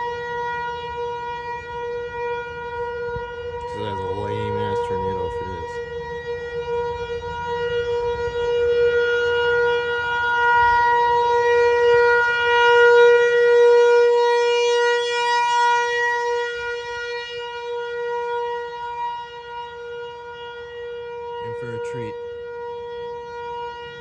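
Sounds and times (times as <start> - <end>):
warning siren wailing: 0.0 - 24.0.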